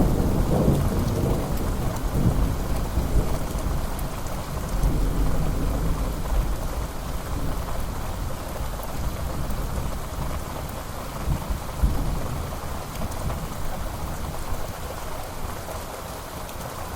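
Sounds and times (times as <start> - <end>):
low rolling thunder: 0.0 - 10.4, 11.2 - 14.7
steady rain falling: 0.0 - 16.9.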